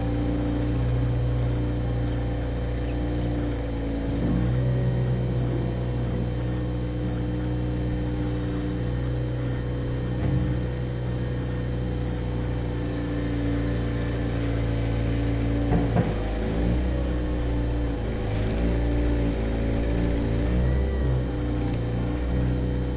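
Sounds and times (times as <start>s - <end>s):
loader engine running: 0.0s - 22.9s.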